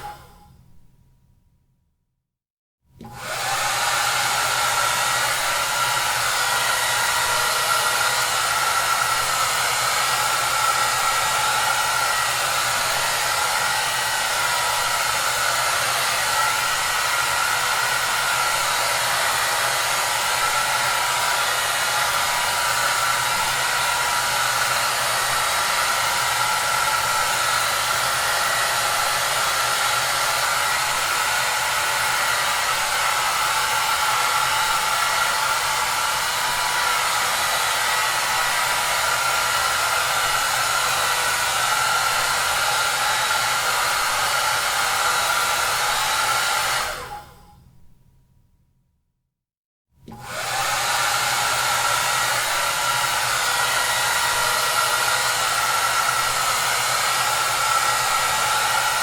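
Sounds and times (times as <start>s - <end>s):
hair dryer running: 0.0s - 0.3s, 3.0s - 47.4s, 50.0s - 59.0s.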